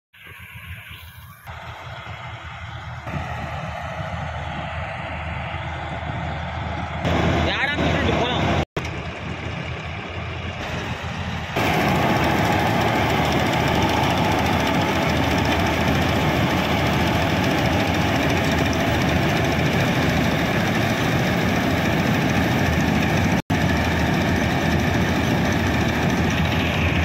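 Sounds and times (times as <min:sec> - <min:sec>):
combine harvester engine running: 0:01.5 - 0:27.0.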